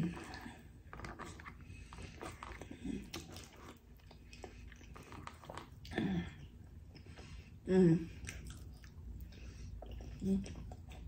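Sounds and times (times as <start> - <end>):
chewing with wet mouth clicks: 0.1 - 7.4, 8.1 - 11.0.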